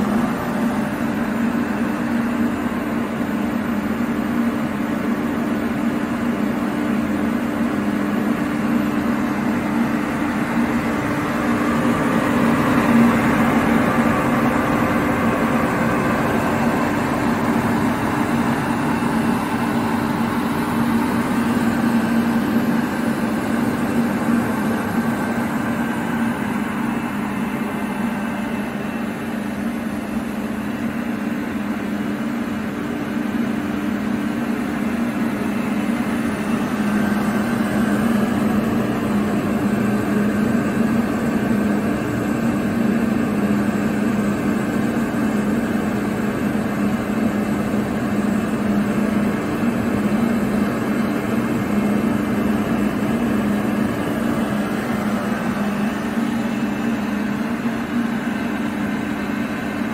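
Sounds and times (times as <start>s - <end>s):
air compressor droning: 0.0s - 59.9s.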